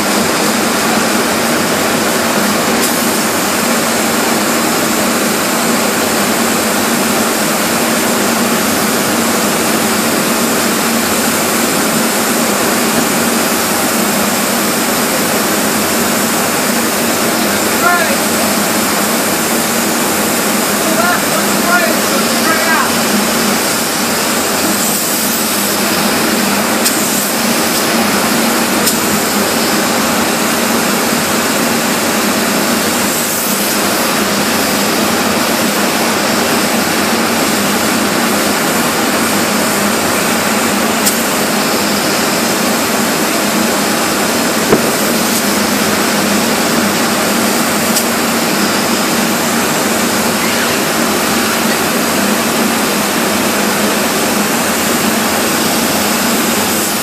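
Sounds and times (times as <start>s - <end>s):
foam gun hissing: 0.0s - 57.0s
machine hum: 0.0s - 57.0s.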